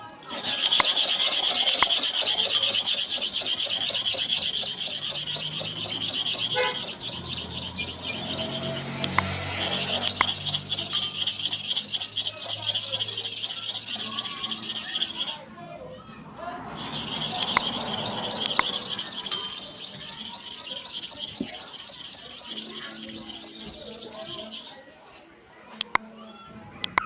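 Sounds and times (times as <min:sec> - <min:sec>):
blade rasping on sharpening surface: 0:00.2 - 0:15.4, 0:16.7 - 0:25.3.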